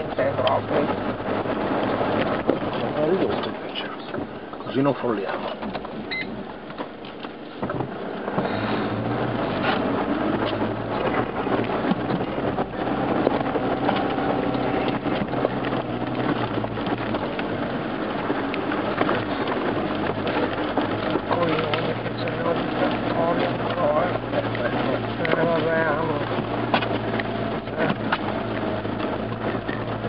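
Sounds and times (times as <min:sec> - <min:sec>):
car engine humming: 0:00.0 - 0:30.0
knocks and rattles from vehicle body: 0:00.0 - 0:30.0.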